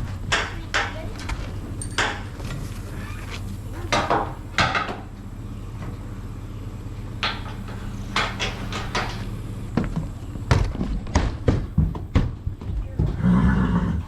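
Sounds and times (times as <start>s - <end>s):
metal clanks and knocks: 0.0s - 13.2s
hooves on trailer floor: 0.0s - 14.0s
steady low hum: 0.0s - 14.0s
trailer gear rattling: 0.0s - 14.0s.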